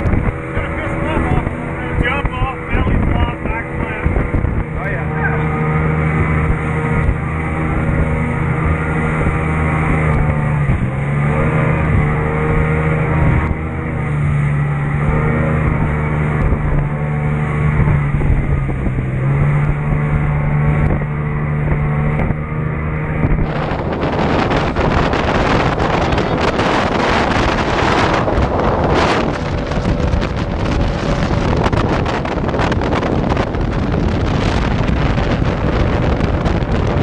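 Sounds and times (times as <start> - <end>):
motorboat engine running: 0.0 - 37.0
water rushing past hull: 0.0 - 37.0
wind buffeting microphone: 0.0 - 37.0.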